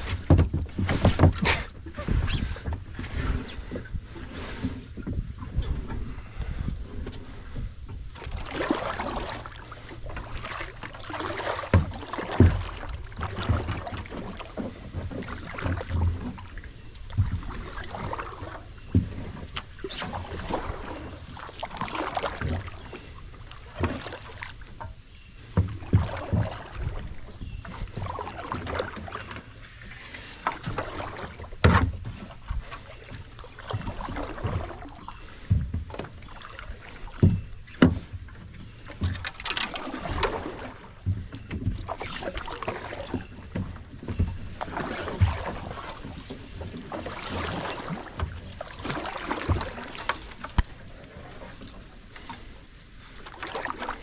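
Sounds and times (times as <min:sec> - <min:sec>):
paddle swishing through water: 0:00.0 - 0:54.0.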